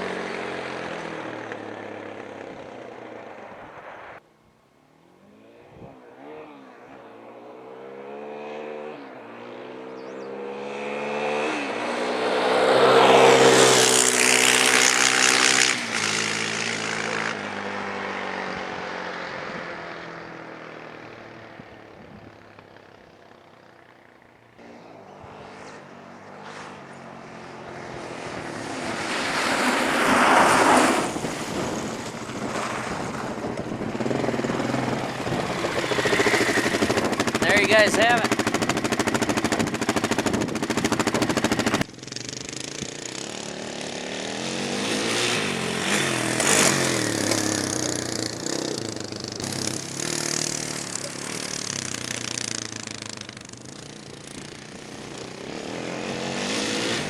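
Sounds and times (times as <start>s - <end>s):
quad engine passing by: 0.0s - 4.2s, 5.0s - 57.0s.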